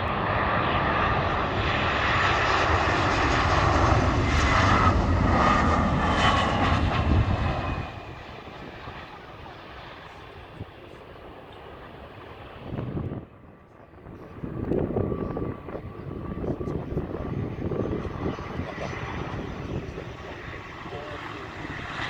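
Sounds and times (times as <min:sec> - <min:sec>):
jet airliner passing close: 0:00.0 - 0:22.0.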